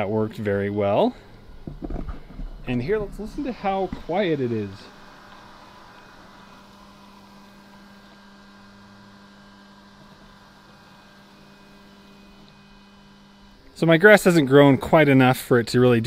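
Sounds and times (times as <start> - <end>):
robot lawn mower humming: 0.4 - 16.0.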